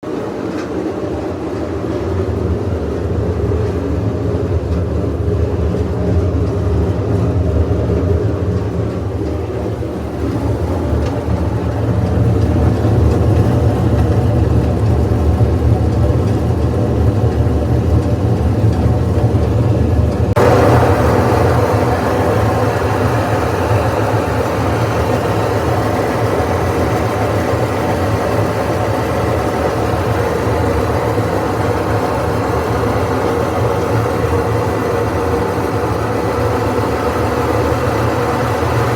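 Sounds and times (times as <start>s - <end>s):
washing machine loud steady drone: 0.0s - 38.9s.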